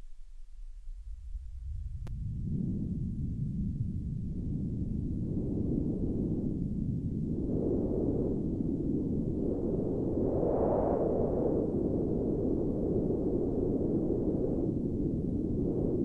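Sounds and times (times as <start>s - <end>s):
wind rushing in gusts: 1.6s - 16.0s.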